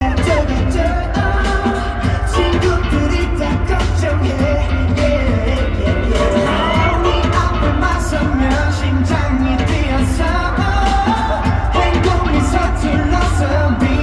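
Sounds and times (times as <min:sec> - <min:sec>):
man singing: 0:00.0 - 0:14.0
pop band with heavy bass: 0:00.0 - 0:14.0.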